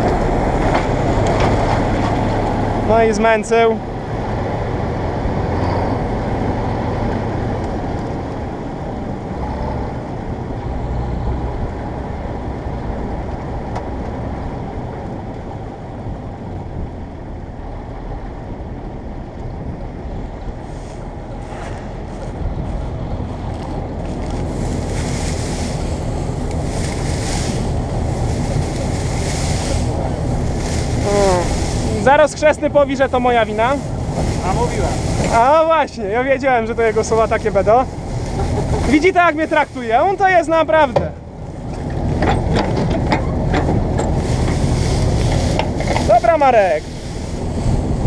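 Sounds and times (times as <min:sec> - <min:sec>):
combine harvester engine and machinery: 0:00.0 - 0:48.0
wind buffeting microphone: 0:00.0 - 0:48.0.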